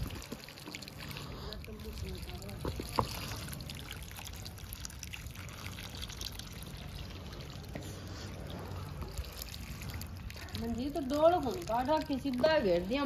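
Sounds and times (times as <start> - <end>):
water pouring from pipe: 0.0 - 13.0.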